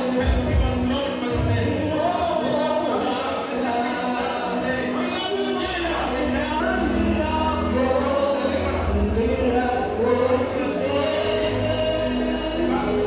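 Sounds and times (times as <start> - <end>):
gospel singing: 0.0 - 13.0
low bass notes: 0.1 - 2.6, 4.1 - 13.0.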